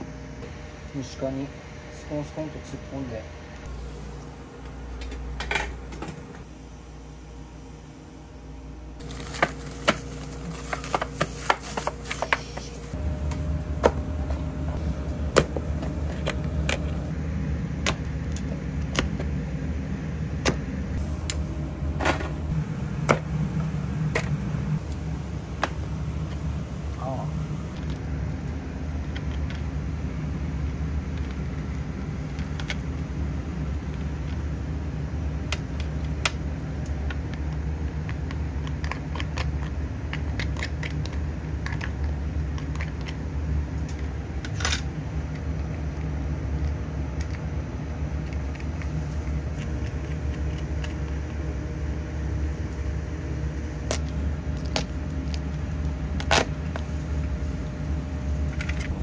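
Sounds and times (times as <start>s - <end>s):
kitchen machinery humming: 0.0s - 59.0s.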